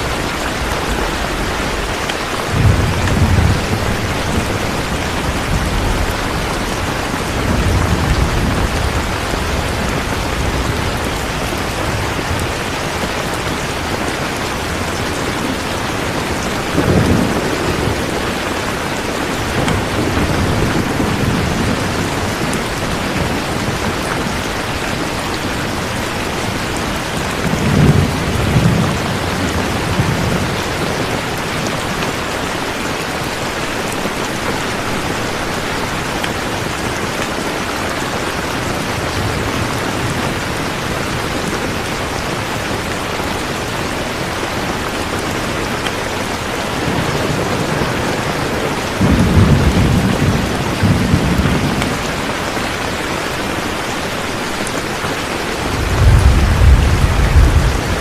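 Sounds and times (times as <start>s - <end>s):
thunder rumbling: 0.0s - 32.2s, 38.4s - 52.6s, 55.5s - 58.0s
heavy rain: 0.0s - 58.0s.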